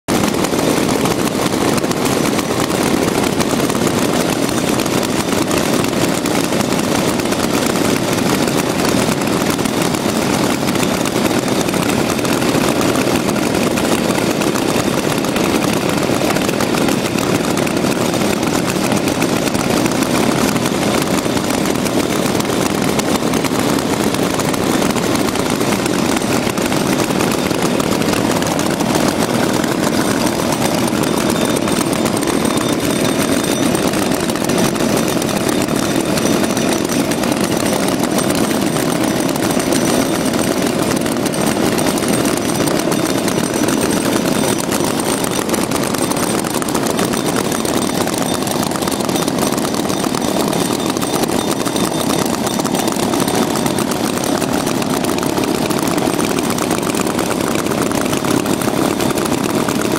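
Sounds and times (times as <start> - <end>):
chainsaw engine running: 0.0 - 59.9.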